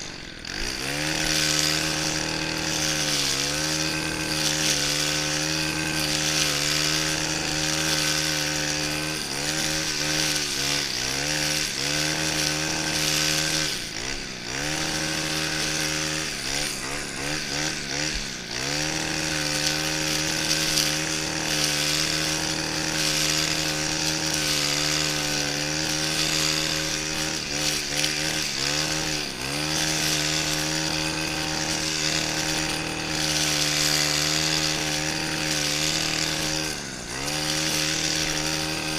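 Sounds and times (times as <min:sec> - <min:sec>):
brushcutter engine trimming grass: 0:00.0 - 0:38.9.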